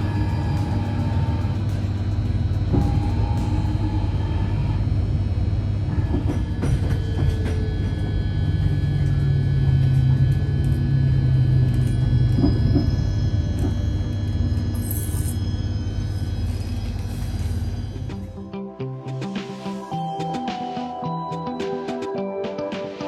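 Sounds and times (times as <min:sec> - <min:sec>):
train rumble inside carriage: 0:00.0 - 0:18.5
low hum: 0:00.0 - 0:18.8.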